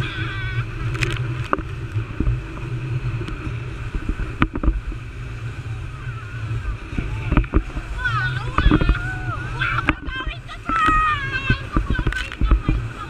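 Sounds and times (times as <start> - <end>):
motorboat engine running: 0.0 - 13.0
water noise: 0.0 - 13.0
wind: 0.0 - 13.0.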